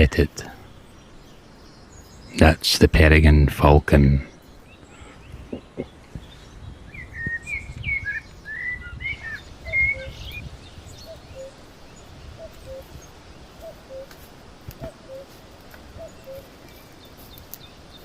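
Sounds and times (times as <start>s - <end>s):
songbirds chirping and warbling: 0.0s - 18.0s.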